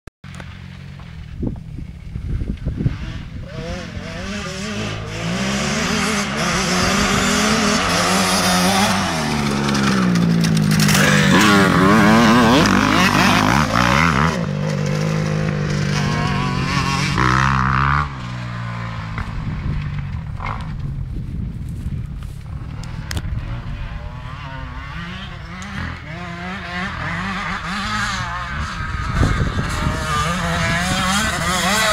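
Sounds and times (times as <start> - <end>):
motorbike engines revving: 0.3 - 31.9.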